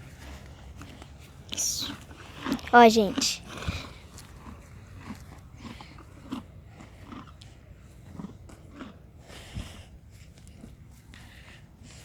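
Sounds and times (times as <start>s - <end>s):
horse chewing: 0.0s - 12.0s.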